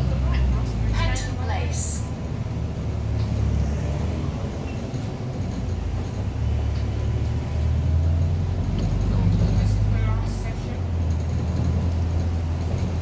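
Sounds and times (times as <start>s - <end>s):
bus engine droning: 0.0s - 13.0s
road noise: 0.0s - 13.0s.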